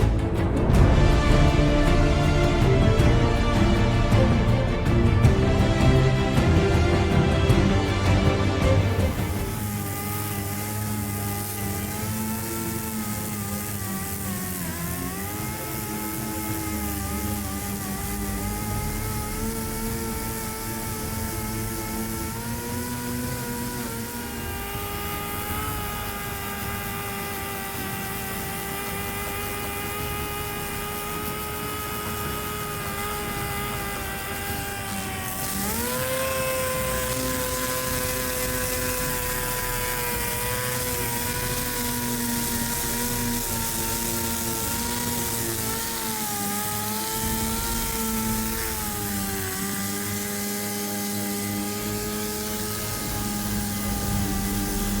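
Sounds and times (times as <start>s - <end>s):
electric sander whining: 0.0s - 55.0s.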